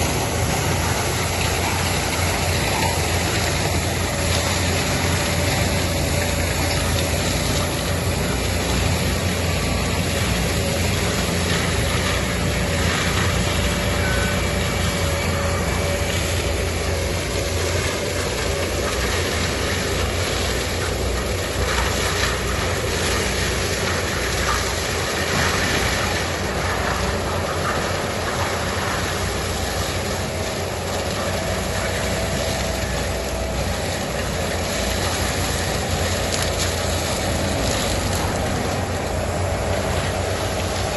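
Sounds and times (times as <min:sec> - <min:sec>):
forestry mulcher grinding trees: 0:00.0 - 0:40.9.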